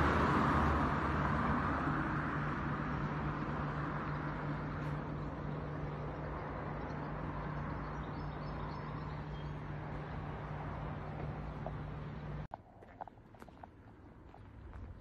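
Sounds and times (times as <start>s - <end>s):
constant low hum: 1.0s - 15.0s.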